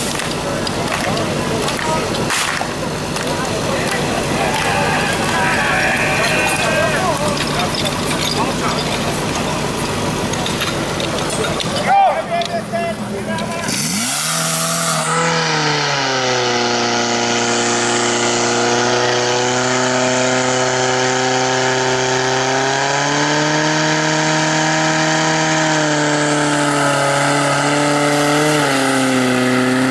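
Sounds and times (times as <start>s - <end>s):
pump engine running at high revs: 0.0s - 11.9s, 12.9s - 29.9s.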